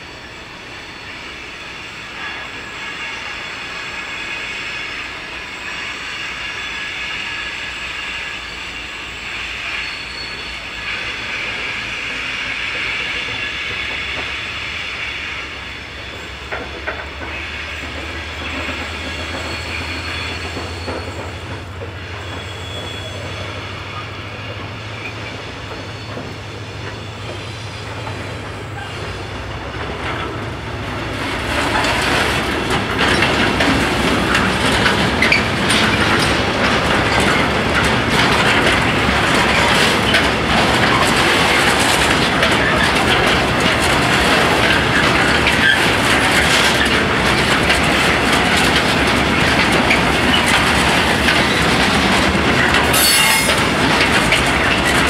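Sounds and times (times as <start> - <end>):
freight train rumbling over rails: 0.0 - 55.0.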